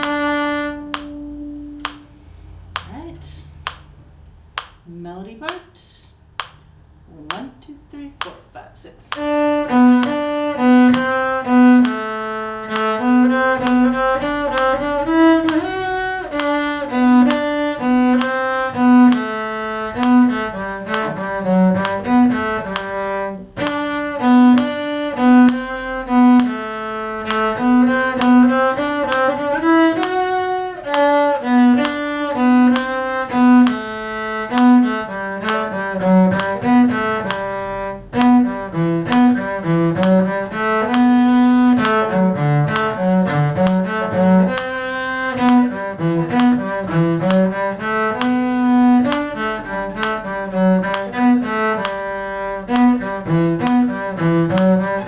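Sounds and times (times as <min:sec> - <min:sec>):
bowed string instruments playing: 0:00.0 - 0:04.0, 0:09.1 - 0:55.0.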